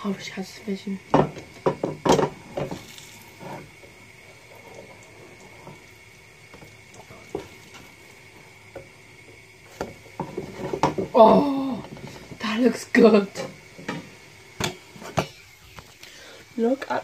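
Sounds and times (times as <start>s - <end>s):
pancake batter sizzling in pan: 0.0s - 17.0s.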